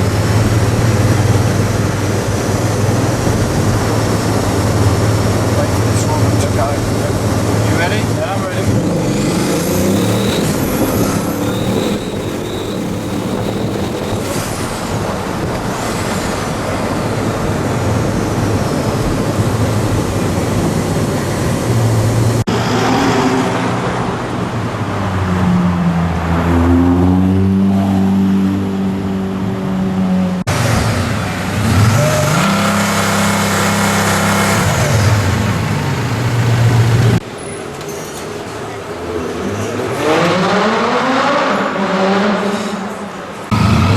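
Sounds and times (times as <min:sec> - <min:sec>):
car engines revving and accelerating: 0:00.0 - 0:43.9
traffic noise: 0:00.0 - 0:43.9.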